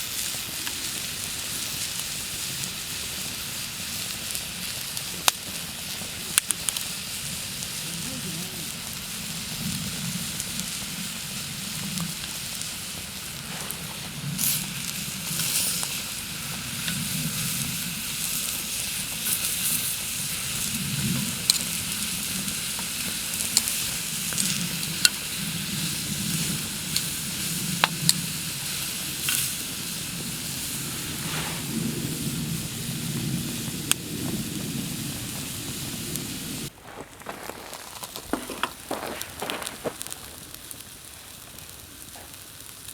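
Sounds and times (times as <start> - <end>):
fire pops and crackles: 0.0 - 42.9
meat sizzling over campfire: 0.0 - 42.9.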